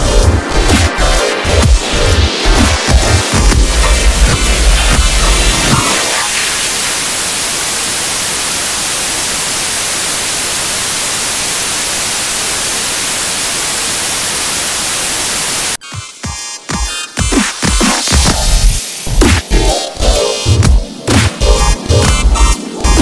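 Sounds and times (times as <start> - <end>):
loud static hiss: 0.0 - 23.0.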